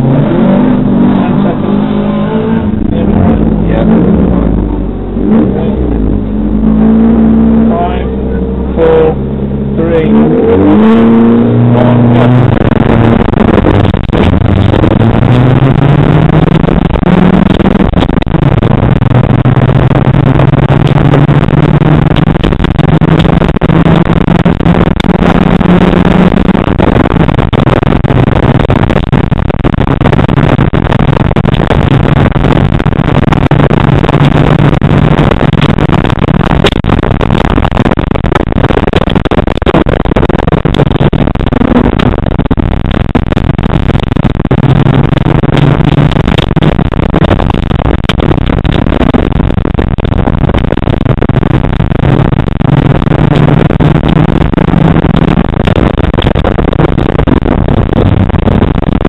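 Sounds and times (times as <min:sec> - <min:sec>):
rally car engine from inside cabin: 0:00.0 - 0:59.0
road noise: 0:00.0 - 0:59.0.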